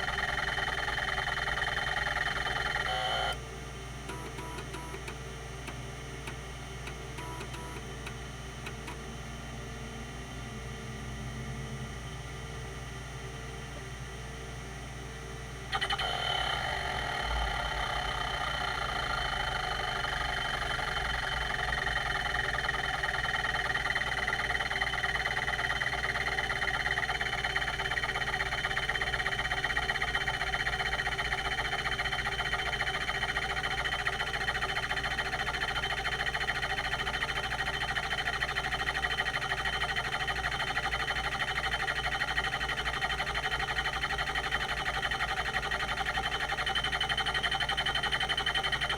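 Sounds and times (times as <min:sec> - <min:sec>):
hard drive spindle whir: 0:00.0 - 0:48.9.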